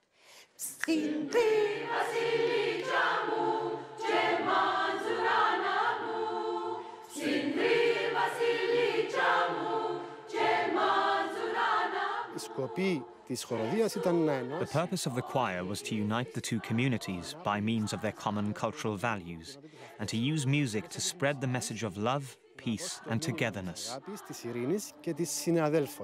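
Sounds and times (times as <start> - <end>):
choir singing in harmony: 0.8 - 26.0.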